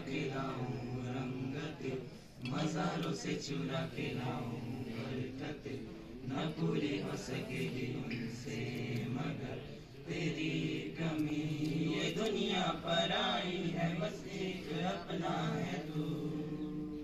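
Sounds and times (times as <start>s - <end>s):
boys singing in unison: 0.0s - 17.0s.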